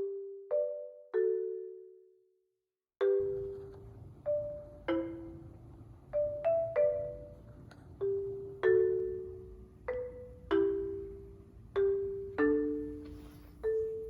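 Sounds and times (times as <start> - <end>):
marimba-like mallet notes: 0.0 - 2.1, 3.0 - 14.0.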